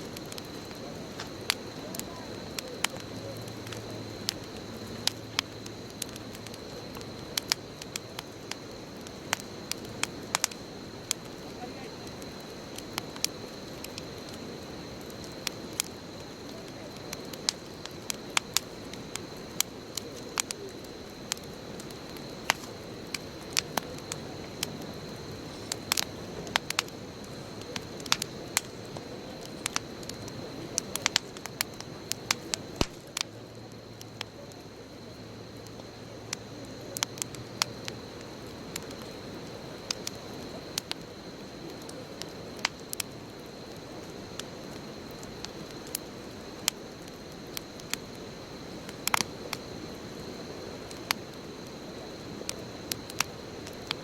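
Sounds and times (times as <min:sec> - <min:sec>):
bonfire hissing: 0:00.0 - 0:54.0
fire crackling and popping: 0:00.0 - 0:54.0.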